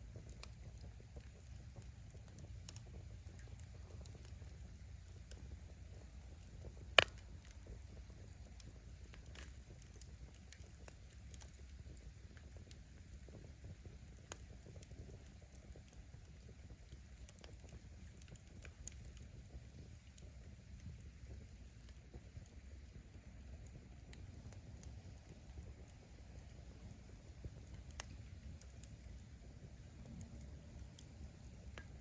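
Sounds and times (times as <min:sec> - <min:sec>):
bonfire low rumble: 0:00.0 - 0:32.0
firewood crackles and pops: 0:00.0 - 0:32.0.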